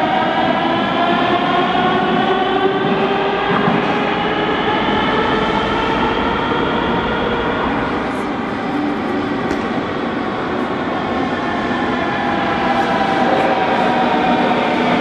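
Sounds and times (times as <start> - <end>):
train traction drive whine: 0.0 - 15.0
train wheels rumbling: 0.0 - 15.0.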